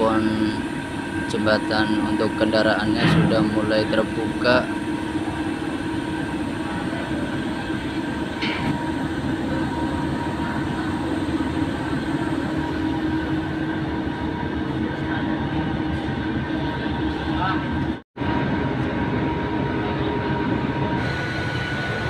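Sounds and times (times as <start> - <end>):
ferry machinery drone and rumble: 0.0 - 22.0.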